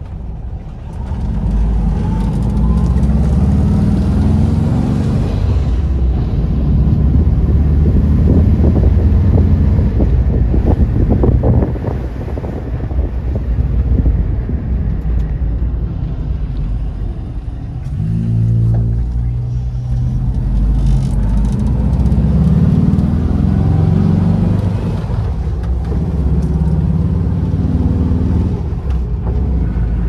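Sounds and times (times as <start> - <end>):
road and wind noise: 0.0 - 30.0
van engine running: 0.0 - 30.0.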